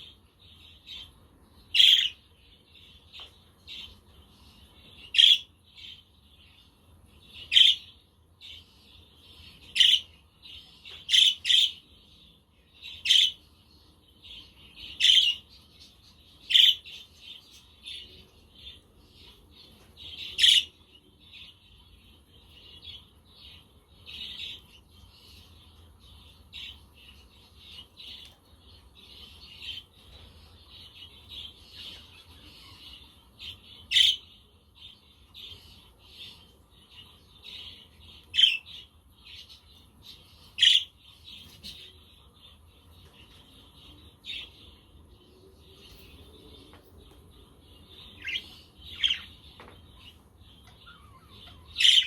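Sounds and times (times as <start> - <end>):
budgerigars chirping and chattering: 0.0 - 52.0.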